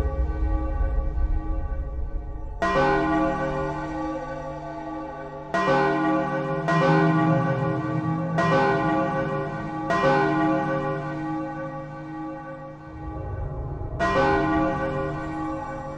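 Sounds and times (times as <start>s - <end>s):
large bell ringing: 0.0s - 15.9s.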